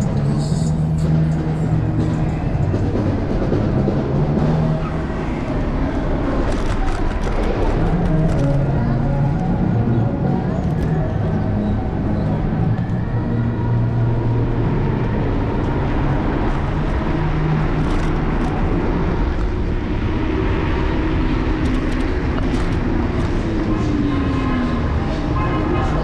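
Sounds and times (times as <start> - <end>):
city traffic rumble: 0.0 - 26.0
passing vehicles humming: 0.0 - 26.0.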